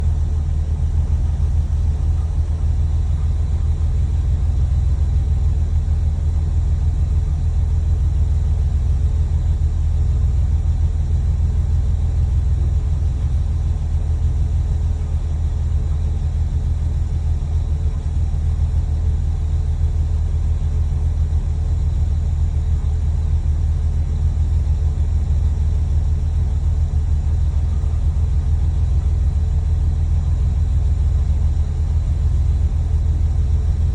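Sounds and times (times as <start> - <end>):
car engine running steadily: 0.0 - 33.9.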